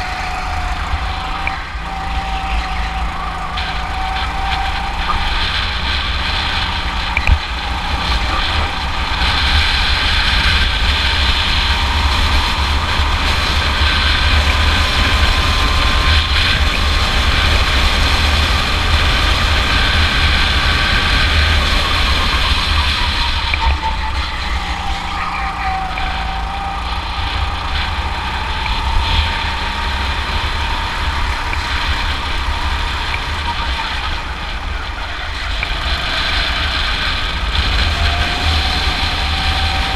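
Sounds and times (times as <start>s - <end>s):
go-kart engine running: 0.0s - 39.9s
steady low rumble: 0.0s - 39.9s.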